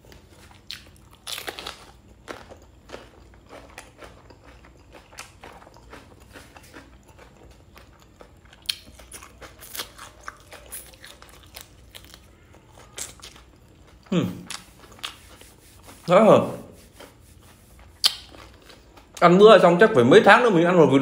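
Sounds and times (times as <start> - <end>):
person chewing: 0.0 - 19.4.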